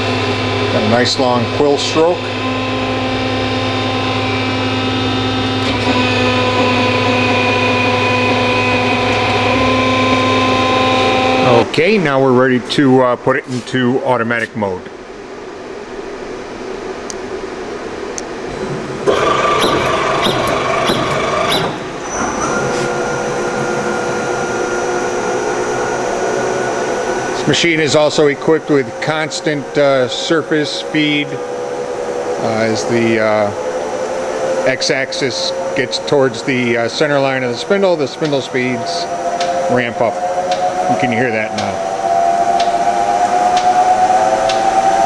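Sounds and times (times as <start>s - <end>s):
lathe mechanical whir: 0.0s - 45.0s
machine hum with whine: 0.0s - 45.0s.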